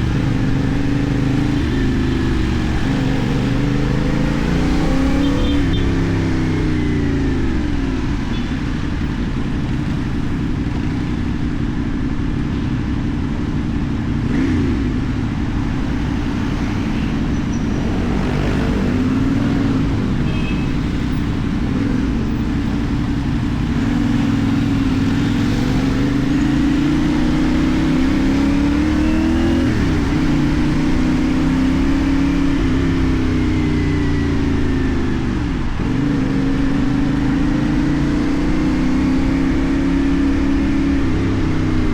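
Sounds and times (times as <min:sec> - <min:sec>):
motorcycle engine revving: 0:00.0 - 0:11.7, 0:14.0 - 0:41.9.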